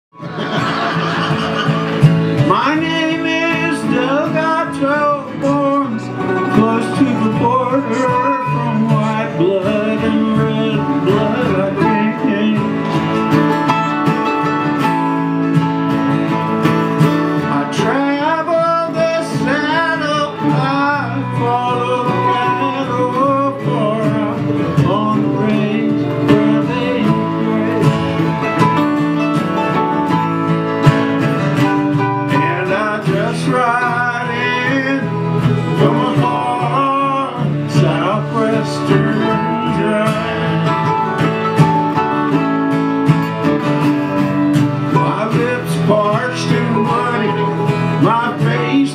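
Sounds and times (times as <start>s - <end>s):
acoustic guitars strumming: 0.2s - 48.9s
mandolin picking melody: 0.2s - 48.9s.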